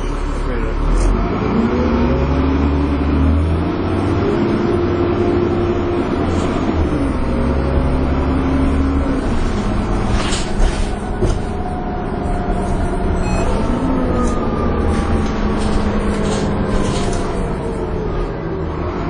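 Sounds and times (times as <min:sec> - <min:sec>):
bus diesel engine whining: 0:00.0 - 0:19.0.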